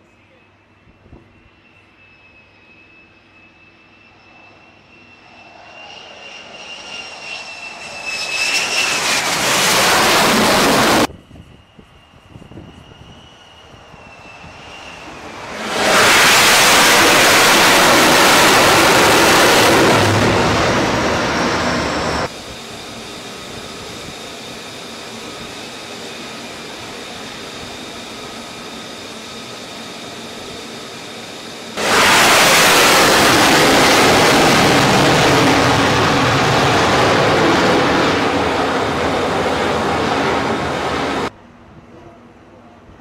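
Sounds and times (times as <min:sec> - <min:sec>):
steady jet whine: 0:00.0 - 0:42.2
loud jet blast: 0:04.5 - 0:11.1, 0:12.5 - 0:41.3.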